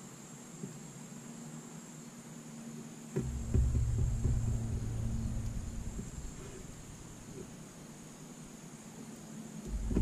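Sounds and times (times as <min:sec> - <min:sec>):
faint background hiss: 0:00.0 - 0:10.0
low mechanical hum: 0:00.0 - 0:10.0.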